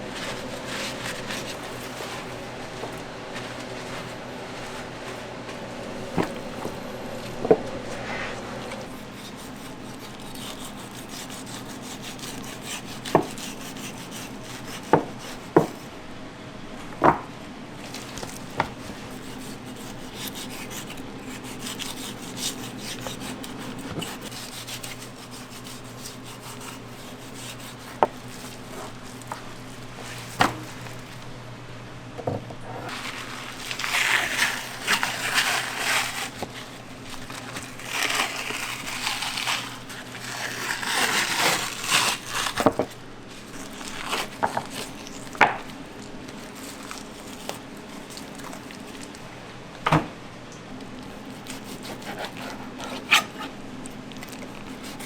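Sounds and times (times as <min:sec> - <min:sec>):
scraping and rustling: 0:00.0 - 0:15.9, 0:17.8 - 0:31.4, 0:32.8 - 0:49.3
steady low hum: 0:00.0 - 0:55.0.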